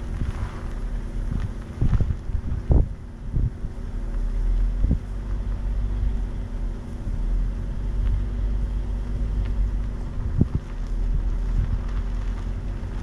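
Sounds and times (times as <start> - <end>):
car rumbling slowly: 0.0 - 13.0
wind buffeting microphone: 0.0 - 13.0.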